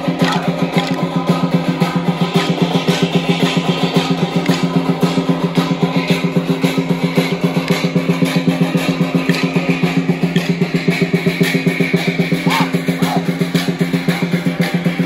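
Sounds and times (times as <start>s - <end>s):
fast even drumbeat: 0.0s - 15.0s.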